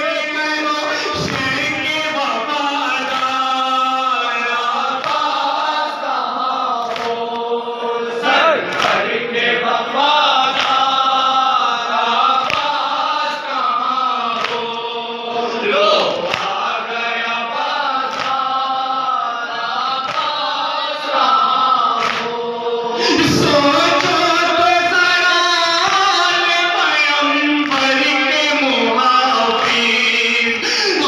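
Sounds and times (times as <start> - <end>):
man reciting into microphone: 0.0 - 31.0
men chanting in unison: 0.0 - 31.0
rhythmic chest-beating: 0.8 - 31.0.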